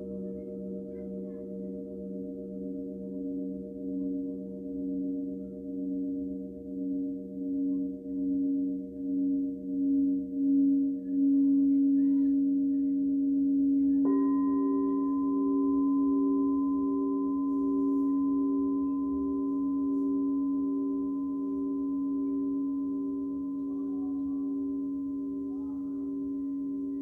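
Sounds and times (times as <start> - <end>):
bowl struck with higher ringing: 0.0 - 27.0
singing bowls ringing: 0.0 - 27.0.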